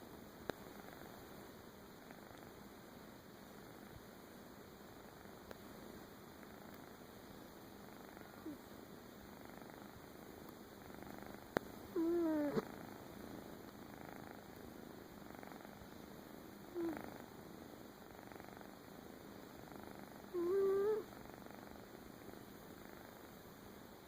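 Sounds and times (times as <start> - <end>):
cat purring: 0.5 - 2.7, 3.3 - 23.6.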